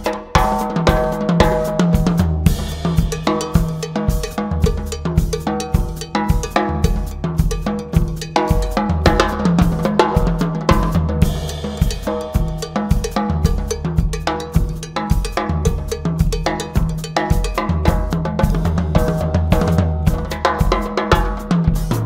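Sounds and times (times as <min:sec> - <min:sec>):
cymbal wash: 0:00.0 - 0:18.2
cowbell pattern: 0:00.0 - 0:22.0
snare bass drum and tom hits: 0:00.0 - 0:22.0.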